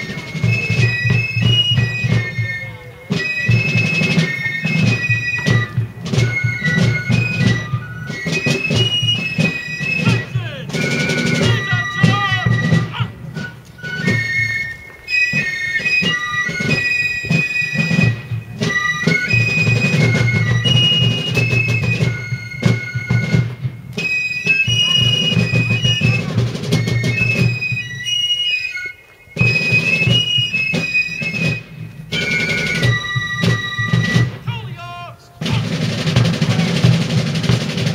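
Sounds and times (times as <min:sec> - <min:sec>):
snare and bass drumming: 0:00.0 - 0:28.1, 0:29.4 - 0:37.9
shrill fife melody: 0:00.0 - 0:37.9.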